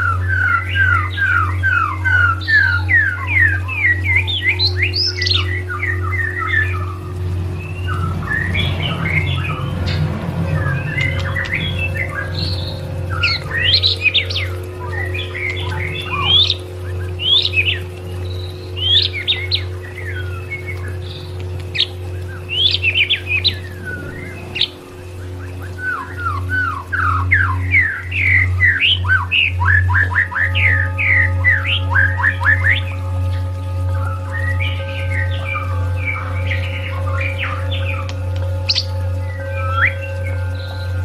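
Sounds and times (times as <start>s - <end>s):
bird singing whistled notes: 0.0s - 41.0s
low musical drone: 0.0s - 41.0s.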